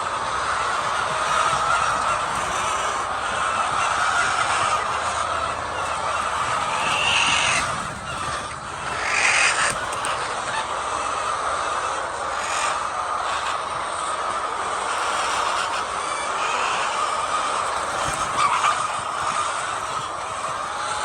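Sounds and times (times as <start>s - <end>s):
hen squawks: 0.0s - 11.3s, 15.0s - 21.0s
hens clucking: 0.0s - 21.0s.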